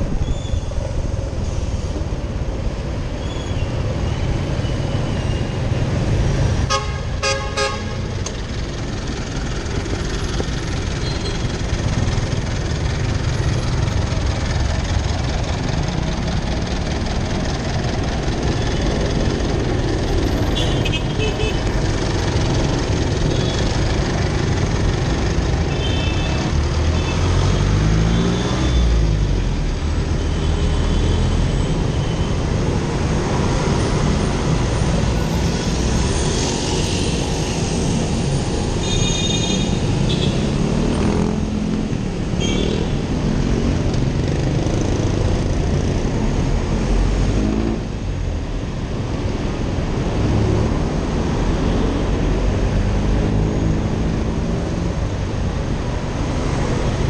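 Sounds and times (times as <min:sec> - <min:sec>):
road and traffic noise: 0:00.0 - 0:57.0.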